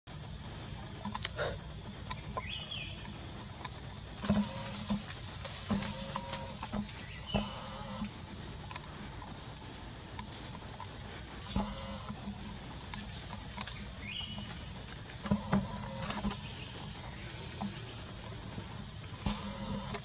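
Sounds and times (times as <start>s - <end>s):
high insect drone: 0.1s - 20.0s
animal calls and chirps: 0.2s - 20.0s.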